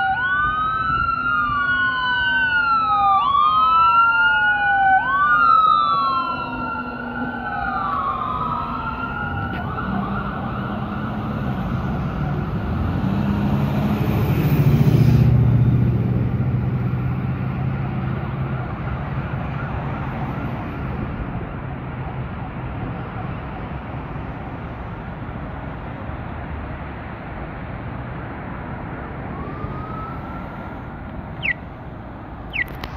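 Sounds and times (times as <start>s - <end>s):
fire engine siren wailing: 0.0s - 25.3s, 28.7s - 32.9s
vehicle engine and tyres passing: 5.1s - 32.9s.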